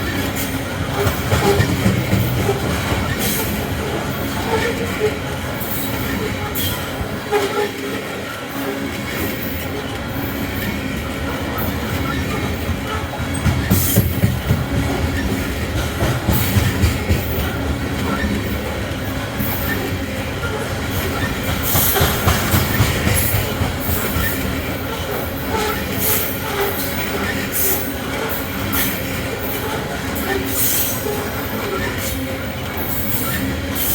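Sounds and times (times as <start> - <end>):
freight train rumbling: 0.0 - 33.9
wheels clicking over rail joints: 0.0 - 33.9.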